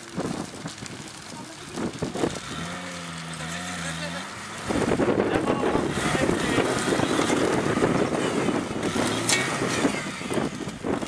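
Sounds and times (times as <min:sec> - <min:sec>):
off-road vehicle engine revving: 0:00.3 - 0:11.0.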